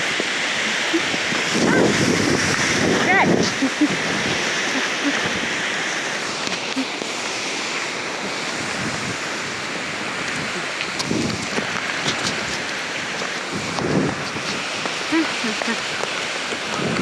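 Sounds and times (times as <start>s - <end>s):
strong storm wind: 0.0s - 17.0s.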